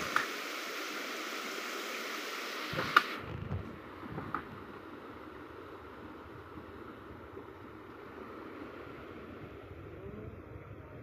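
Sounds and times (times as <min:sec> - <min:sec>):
stream rushing over rocks: 0:00.0 - 0:09.2.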